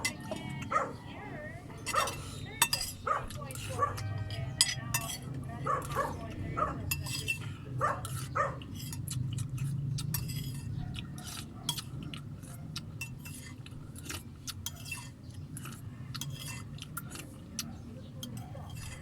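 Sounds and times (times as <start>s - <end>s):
cutlery clinking on plates: 0.0s - 0.9s, 1.8s - 19.0s.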